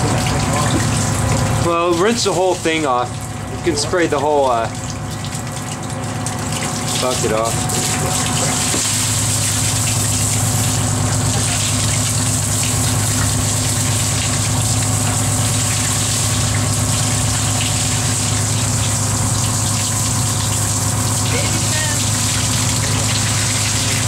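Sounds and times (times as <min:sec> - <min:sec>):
boat machinery drone: 0:00.0 - 0:24.0.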